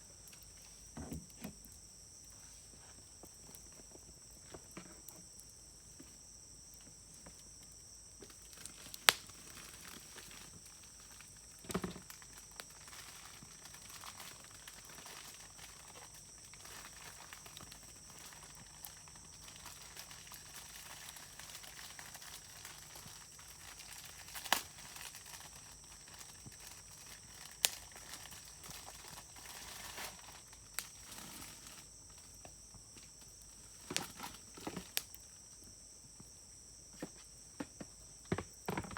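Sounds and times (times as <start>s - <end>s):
wood fire crackling: 0.0s - 36.3s
insect chirring: 0.0s - 38.9s
burning wood popping: 0.1s - 36.3s.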